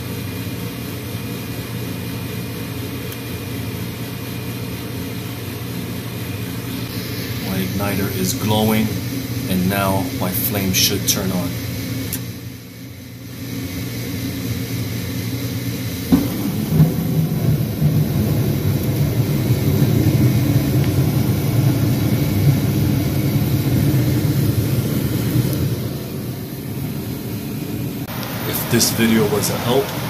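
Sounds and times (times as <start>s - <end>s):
low rumble of burners: 0.1s - 30.0s
inducer motor hum: 0.8s - 30.0s.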